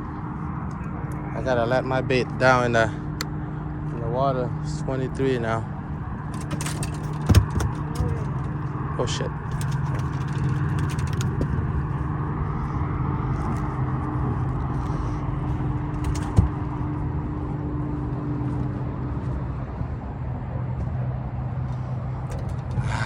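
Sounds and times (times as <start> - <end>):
boat motor humming: 0.0 - 23.0.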